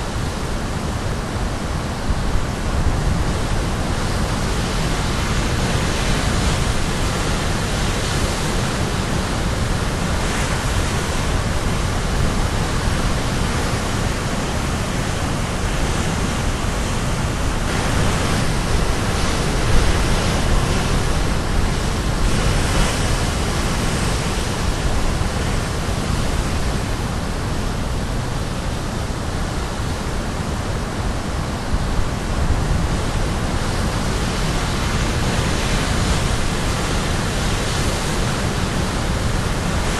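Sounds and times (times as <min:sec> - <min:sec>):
waves crashing on shore: 0:00.0 - 0:39.9.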